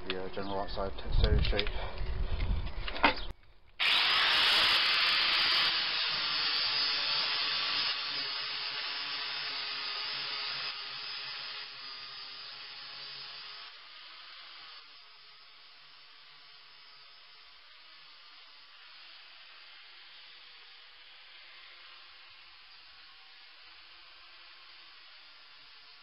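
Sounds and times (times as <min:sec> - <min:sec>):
angle grinder grinding steel: 0:03.8 - 0:26.0.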